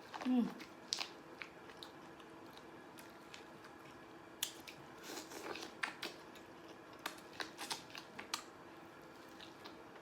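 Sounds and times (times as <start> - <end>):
biting and mouth clicks: 0.0 - 8.5
crunchy chewing: 0.0 - 8.5.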